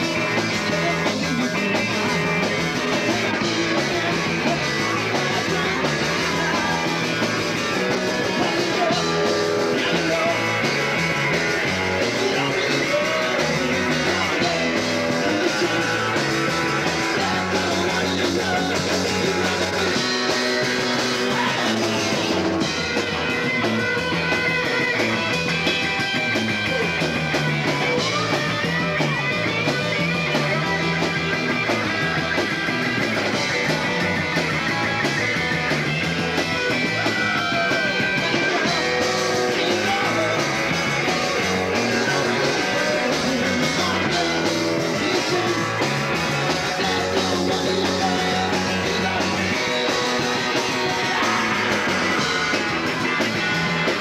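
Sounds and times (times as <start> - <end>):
drums: 0.0 - 54.0
electric guitar: 0.0 - 54.0.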